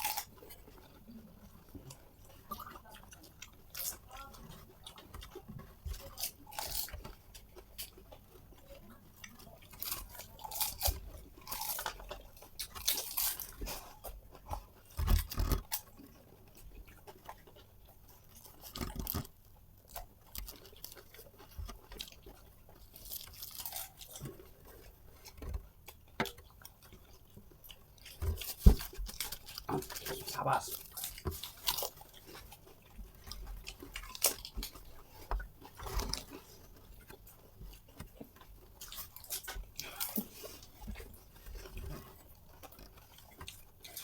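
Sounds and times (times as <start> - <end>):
crisp shells crunching and chewed: 0.0 - 44.0.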